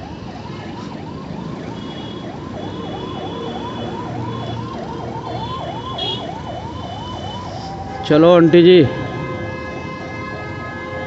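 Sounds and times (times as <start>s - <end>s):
ambulance siren wailing: 0.0s - 11.0s
traffic noise: 0.0s - 11.0s.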